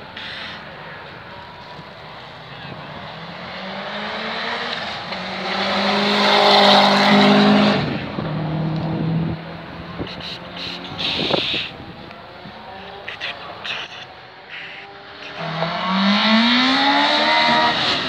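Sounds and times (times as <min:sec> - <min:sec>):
race car passing at speed: 0:02.0 - 0:13.0, 0:14.2 - 0:18.0.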